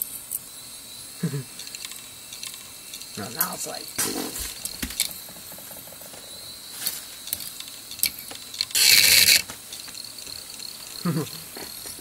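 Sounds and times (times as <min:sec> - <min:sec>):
hard drive hiss: 0:00.0 - 0:12.0.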